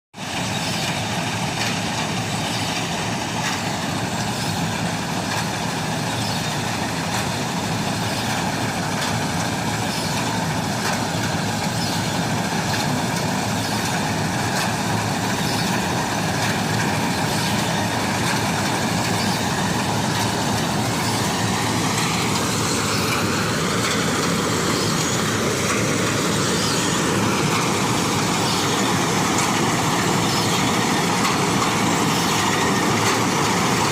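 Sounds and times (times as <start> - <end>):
combine harvester droning: 0.2 - 33.9.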